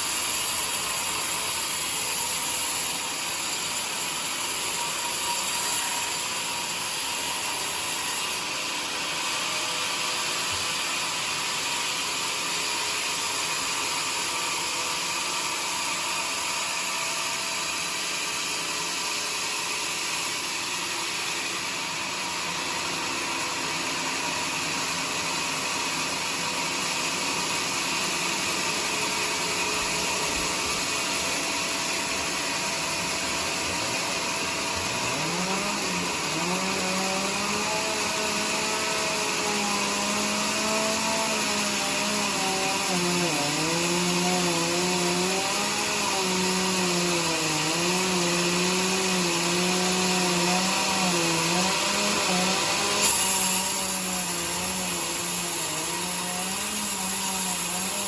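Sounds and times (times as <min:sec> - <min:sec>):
sawmill blade cutting log: 0:00.0 - 0:58.0.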